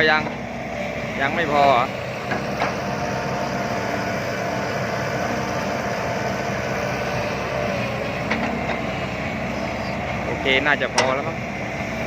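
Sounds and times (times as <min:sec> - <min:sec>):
diesel machinery running: 0:00.0 - 0:12.0.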